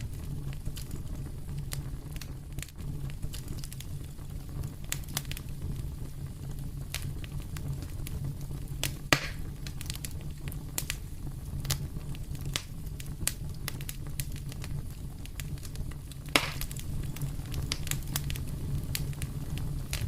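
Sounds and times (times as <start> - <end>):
fire flames rumbling: 0.0 - 20.0
wood fire crackling: 0.0 - 20.0.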